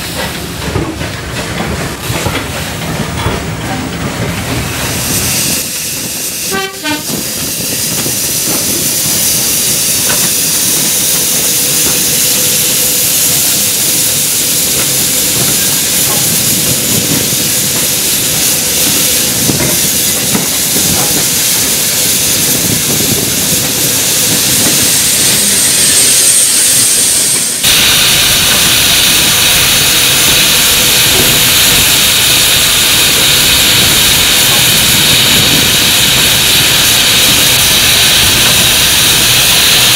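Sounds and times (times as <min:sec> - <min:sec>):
train running rush: 0:00.0 - 0:39.9
steam hiss: 0:04.4 - 0:39.9.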